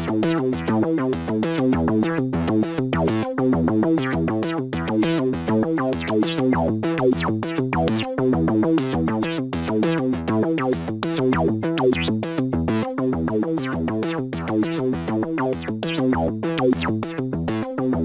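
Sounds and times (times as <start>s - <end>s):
repeating electronic rhythm: 0.0s - 18.0s.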